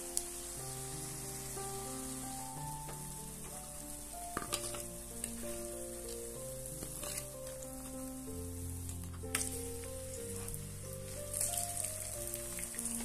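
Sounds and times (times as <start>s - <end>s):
food sizzling in hot oil: 0.0s - 13.0s
soft background music: 0.0s - 13.0s.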